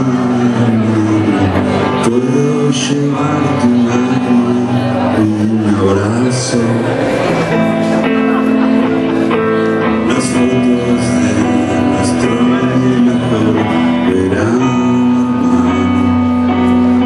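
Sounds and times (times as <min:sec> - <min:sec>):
acoustic guitar chords: 0:00.0 - 0:17.0
electric guitar chords: 0:00.0 - 0:17.0
live band music: 0:00.0 - 0:17.0.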